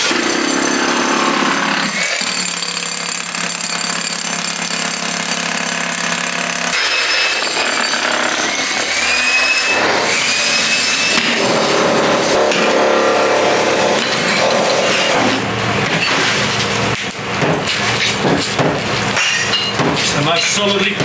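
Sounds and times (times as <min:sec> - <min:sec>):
demolition hammer breaking brickwork: 0:00.0 - 0:21.0.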